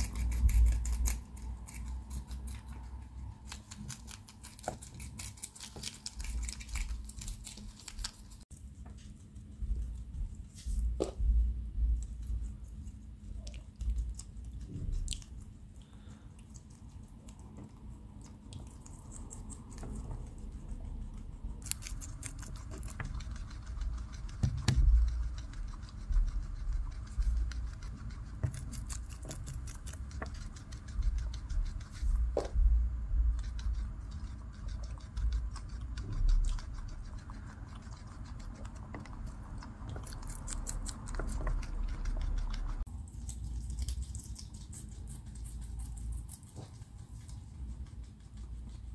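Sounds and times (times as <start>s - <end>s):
guinea pigs chewing vegetables: 0.0s - 48.9s.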